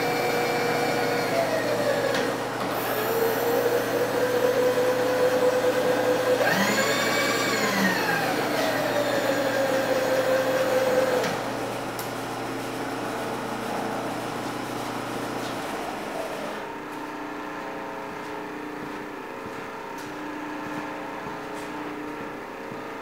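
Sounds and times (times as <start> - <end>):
milling machine motor hum: 0.0 - 23.0.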